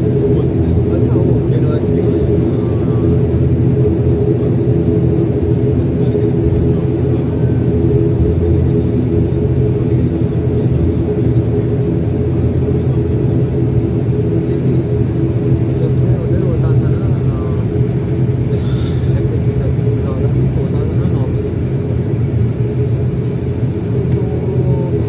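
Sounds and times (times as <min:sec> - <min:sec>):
turboprop engine drone: 0:00.0 - 0:25.0.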